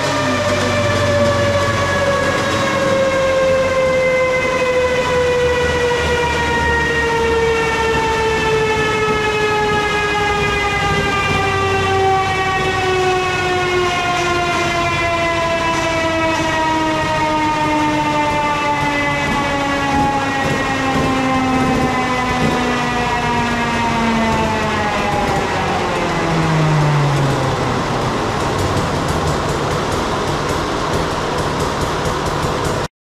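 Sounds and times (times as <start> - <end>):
wheel spinning down whine: 0.0 - 32.9.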